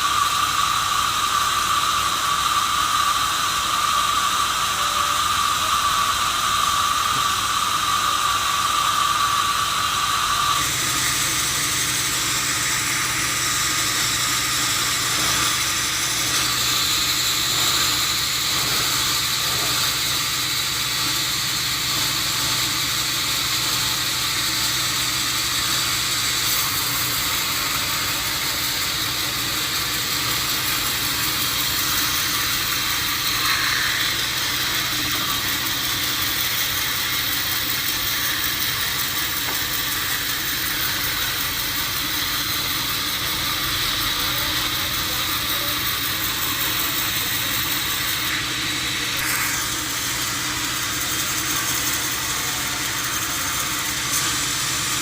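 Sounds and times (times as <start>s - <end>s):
sawmill machinery humming and hissing: 0.0s - 55.0s.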